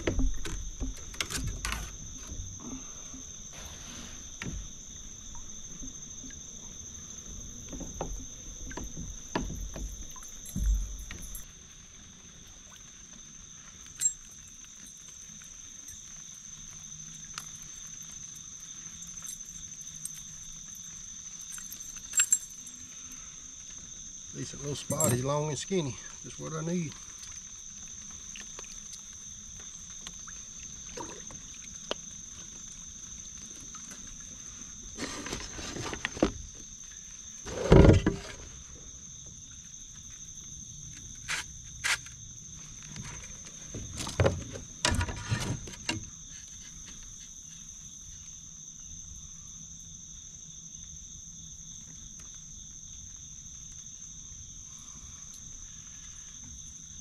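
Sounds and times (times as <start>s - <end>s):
knocks and rattles in a kayak: 0.0s - 48.3s
high-pitched insect chorus: 0.0s - 57.0s.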